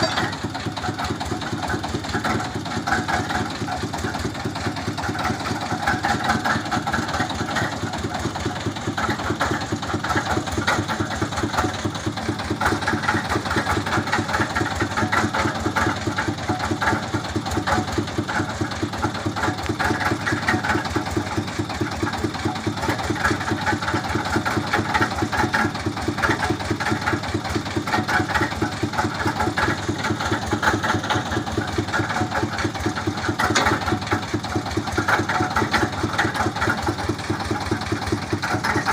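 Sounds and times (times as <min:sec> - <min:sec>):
rig engine running steadily: 0:00.0 - 0:38.9.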